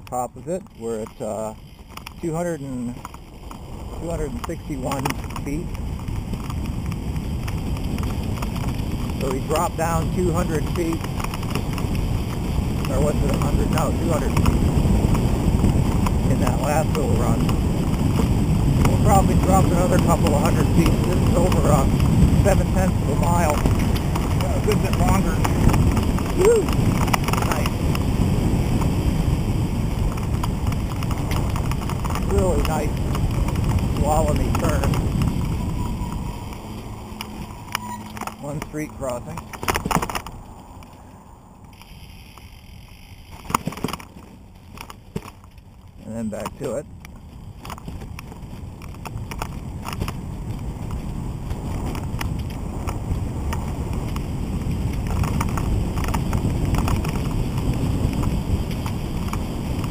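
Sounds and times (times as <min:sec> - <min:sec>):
tyre rumble: 0:00.0 - 0:41.1, 0:41.7 - 0:59.9
wind buffeting microphone: 0:00.0 - 0:59.9.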